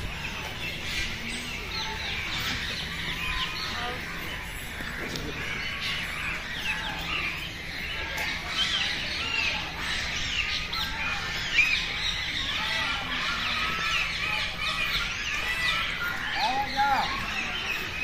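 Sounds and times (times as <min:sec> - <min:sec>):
birds chirping and squawking: 0:00.0 - 0:18.0.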